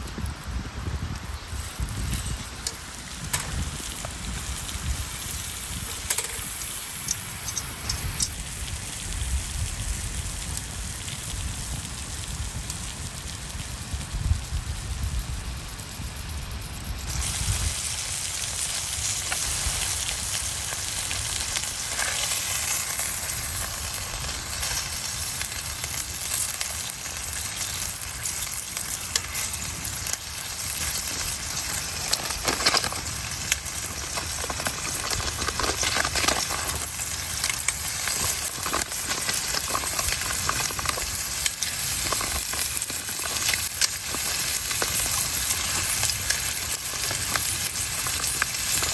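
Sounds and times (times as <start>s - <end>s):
oil popping and crackling: 0.0s - 14.3s, 17.0s - 48.9s
food sizzling in hot oil: 0.0s - 48.9s.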